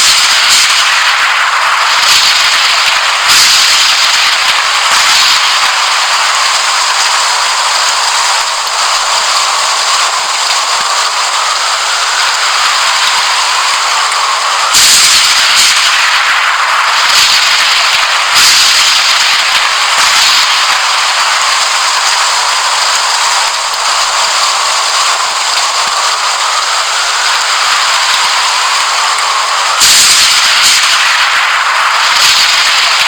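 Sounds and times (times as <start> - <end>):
heavy rain hissing: 0.0 - 33.0
thunder cracks: 0.0 - 33.0.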